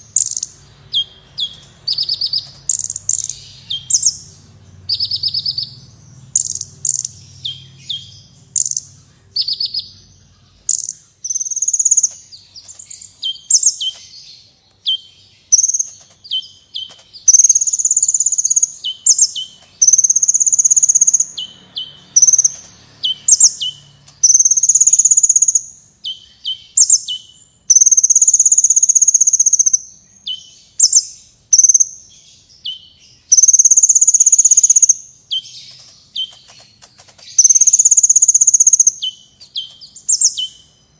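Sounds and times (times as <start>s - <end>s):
bird singing buzzy trills: 0.0s - 40.9s.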